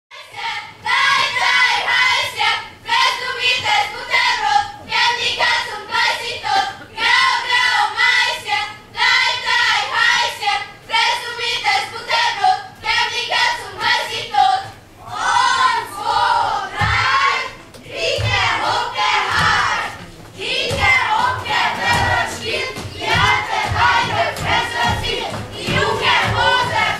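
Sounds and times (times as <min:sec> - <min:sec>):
children singing: 0:00.2 - 0:26.9.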